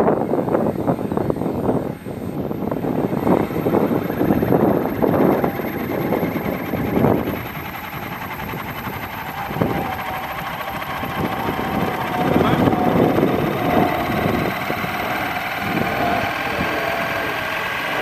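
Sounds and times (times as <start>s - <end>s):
propeller motor and rotor running: 0.0s - 18.0s
steady whine: 0.0s - 18.0s
wind hitting microphone: 0.0s - 18.0s.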